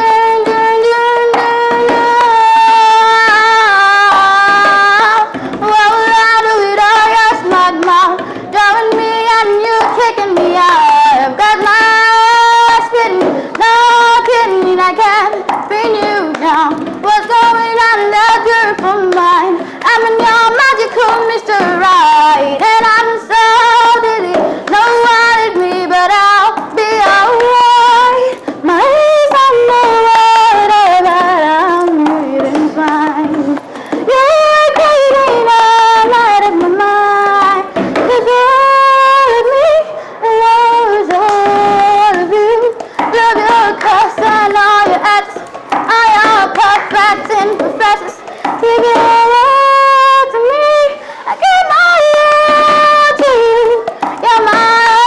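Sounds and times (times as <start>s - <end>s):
cups tapping: 0.0s - 55.0s
woman singing: 0.0s - 55.0s.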